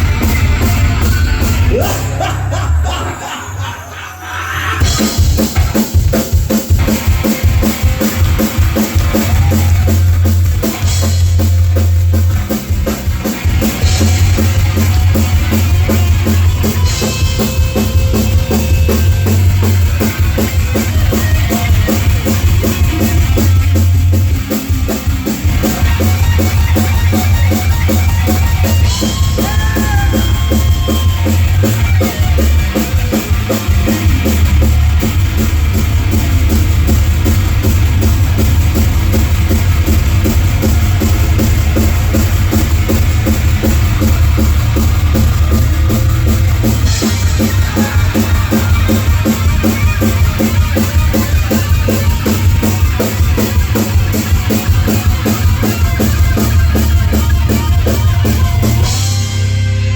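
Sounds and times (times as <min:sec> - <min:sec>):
fast drum kit: 0:00.0 - 0:02.6, 0:04.8 - 0:59.9
distorted electric guitar: 0:00.0 - 0:59.9
heavy bass: 0:00.0 - 0:59.9.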